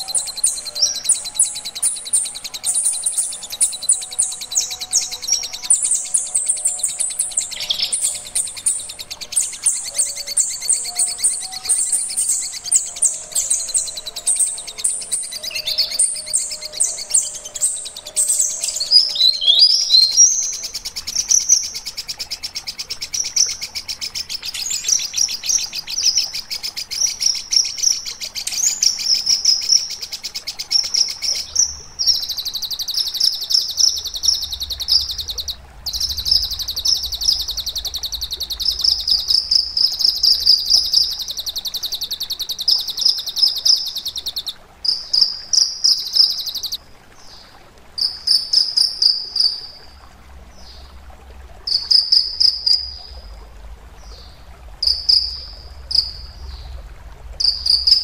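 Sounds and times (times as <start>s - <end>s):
songbird singing trills: 0.0s - 49.8s, 51.7s - 56.8s.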